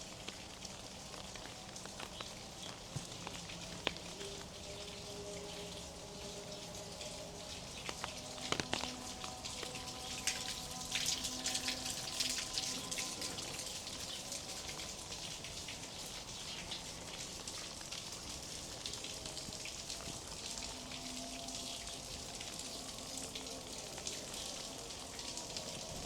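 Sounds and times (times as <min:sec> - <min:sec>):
rain on hard surfaces: 0:00.0 - 0:26.0.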